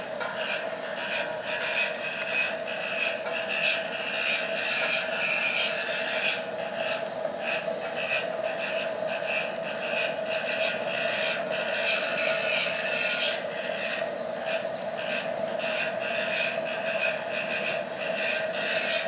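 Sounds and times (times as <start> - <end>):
blower fan humming: 0.0 - 19.0.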